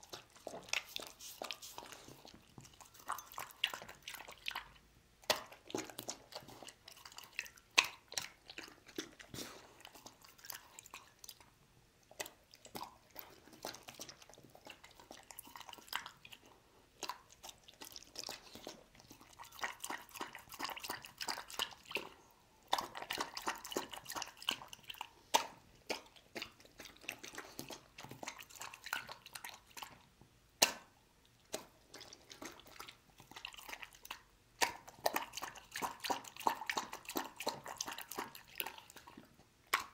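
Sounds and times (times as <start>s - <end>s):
dog lapping and chewing: 0.0s - 39.9s.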